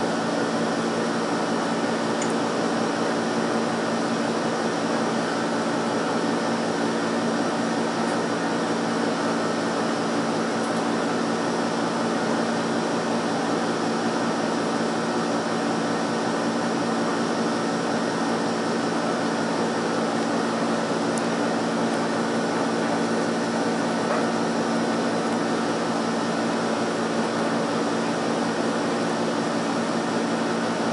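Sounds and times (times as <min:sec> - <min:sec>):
steady mechanical hum: 0:00.0 - 0:30.9.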